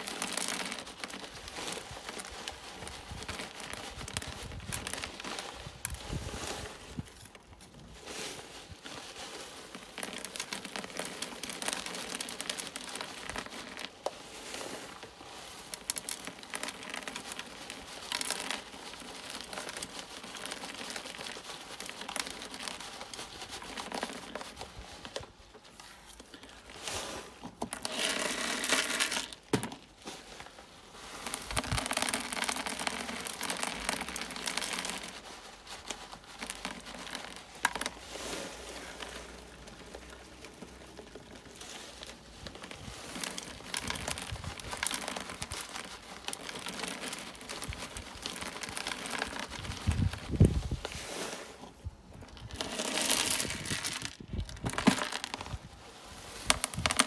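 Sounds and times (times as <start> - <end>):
plastic bag crinkling: 0.0 - 57.0.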